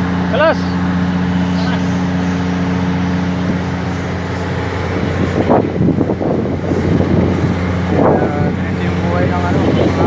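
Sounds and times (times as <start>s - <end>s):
vehicle engine idling: 0.0s - 10.0s
wind buffeting microphone: 0.8s - 10.0s.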